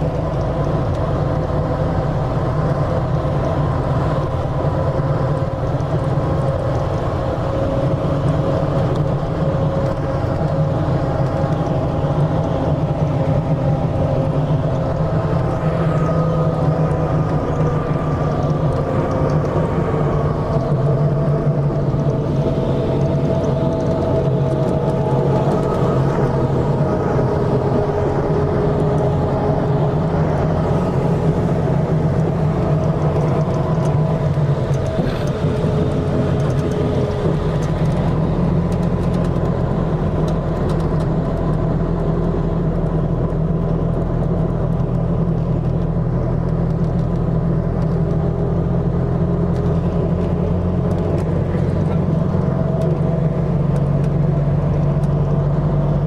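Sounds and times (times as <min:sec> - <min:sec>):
road noise: 0:00.0 - 0:56.0
vehicle engine hum: 0:00.0 - 0:56.0.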